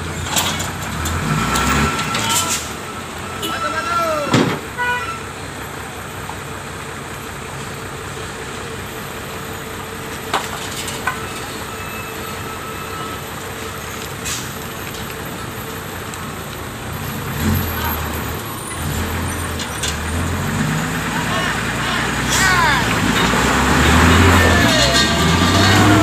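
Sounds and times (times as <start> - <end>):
heavy truck engines running: 0.0 - 26.0.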